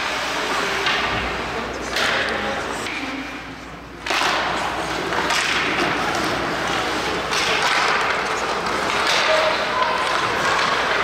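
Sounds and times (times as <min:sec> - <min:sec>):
ice hockey play noise: 0:00.0 - 0:11.0.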